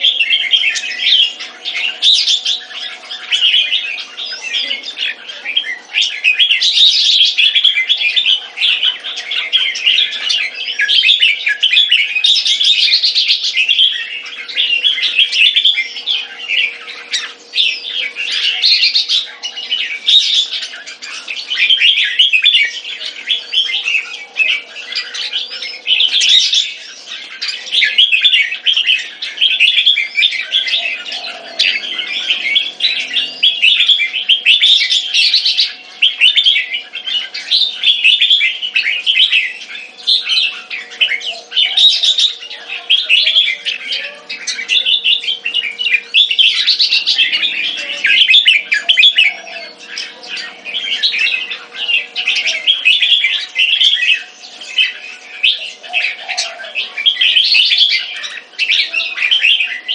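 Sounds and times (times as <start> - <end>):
birds singing: 0.0 - 59.9.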